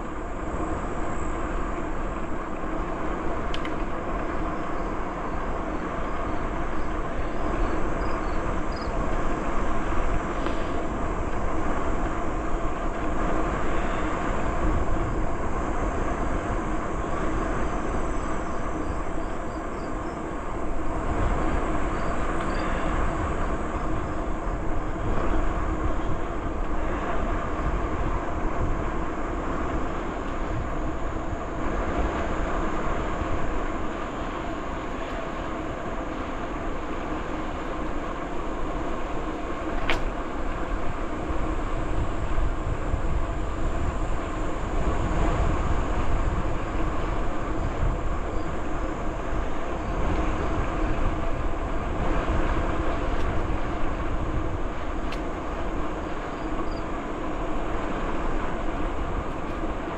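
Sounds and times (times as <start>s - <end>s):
bicycle tyres rolling on trail: 0.0s - 59.9s
wind buffeting microphone: 0.0s - 59.9s.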